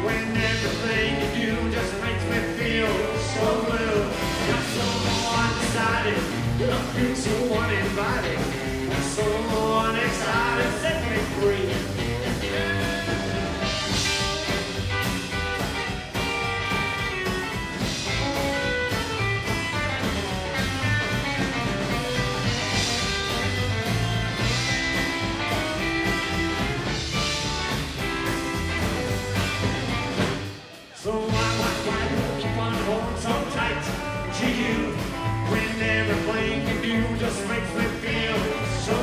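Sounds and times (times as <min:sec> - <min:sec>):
drums: 0:00.0 - 0:39.0
electric guitar: 0:00.0 - 0:39.0.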